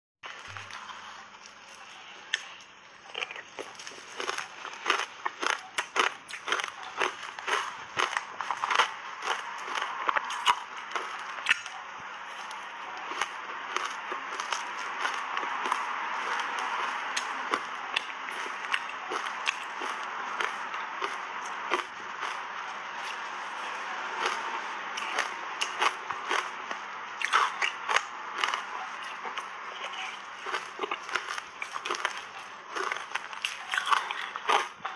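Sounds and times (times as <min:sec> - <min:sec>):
ice crunching as chewed: 0:00.3 - 0:34.9.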